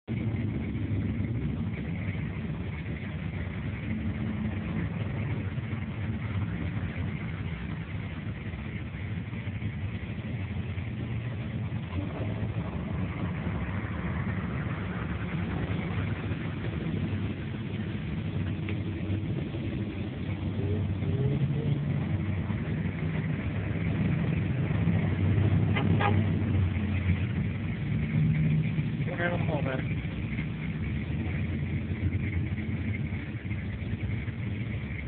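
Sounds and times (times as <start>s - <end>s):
truck engines idling: 0.1s - 35.0s.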